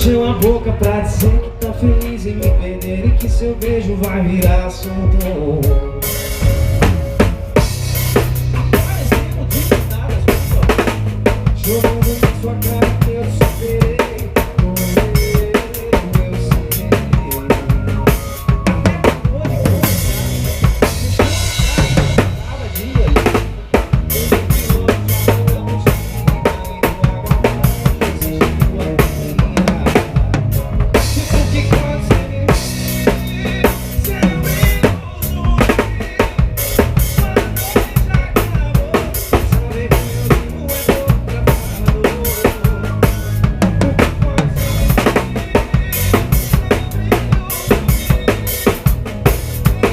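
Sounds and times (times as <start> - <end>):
drum kit kick and snare: 0.0 - 49.9
live band playing: 0.0 - 49.9.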